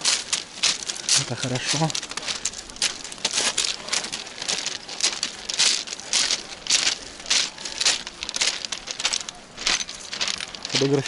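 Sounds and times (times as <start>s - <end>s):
footsteps on pebbles: 0.0s - 11.0s.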